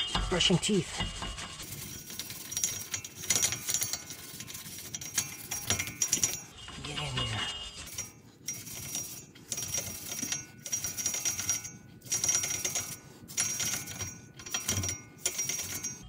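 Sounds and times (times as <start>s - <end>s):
stiff brush scrubbing: 0.0s - 16.0s.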